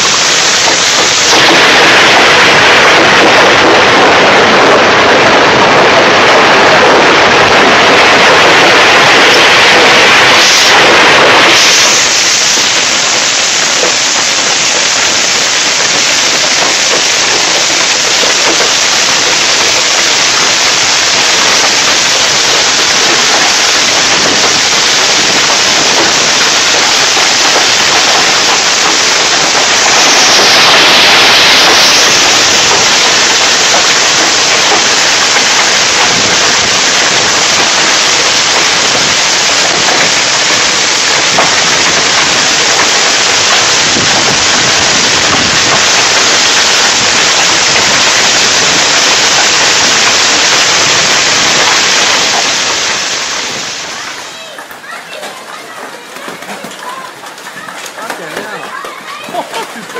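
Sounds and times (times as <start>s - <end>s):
heavy hail and rain pelting: 0.0s - 59.9s.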